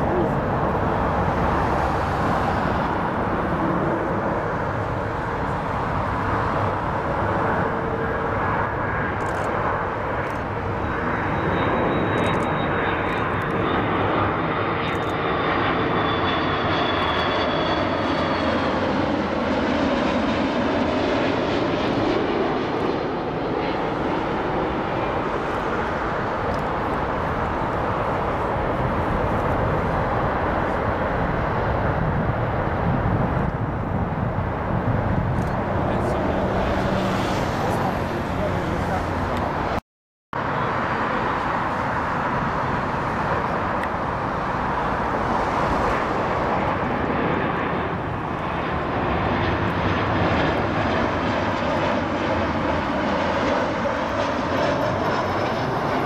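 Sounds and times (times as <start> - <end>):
jet engine rumble: 0.0 - 39.8, 40.4 - 56.0.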